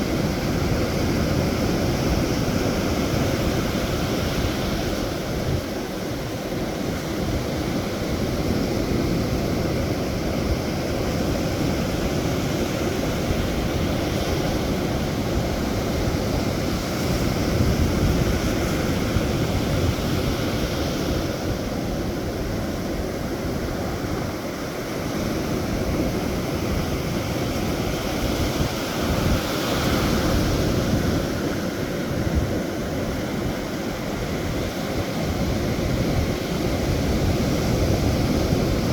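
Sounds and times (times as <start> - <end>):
sea waves on shore: 0.0 - 38.9
wind: 0.0 - 38.9
wind buffeting microphone: 0.0 - 38.9.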